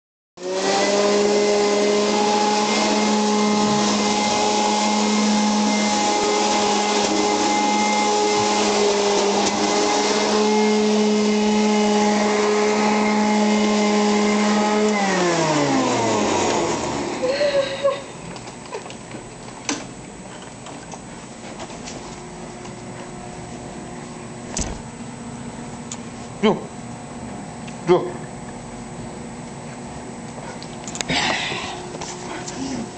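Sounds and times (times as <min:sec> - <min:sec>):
vacuum cleaner running: 0:00.4 - 0:27.6, 0:28.6 - 0:32.9.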